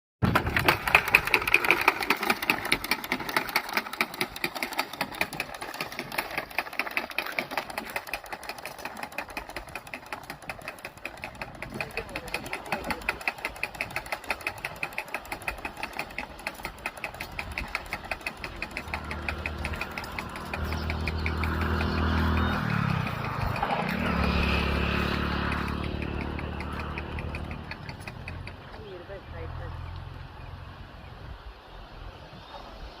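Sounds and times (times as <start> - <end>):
seed planter clicking and rattling: 0.2 - 29.2
low engine hum: 0.3 - 33.0.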